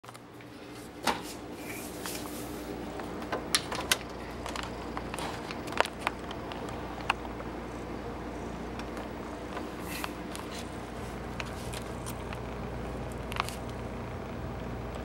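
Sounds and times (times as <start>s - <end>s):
refrigerator hum: 0.0s - 15.0s.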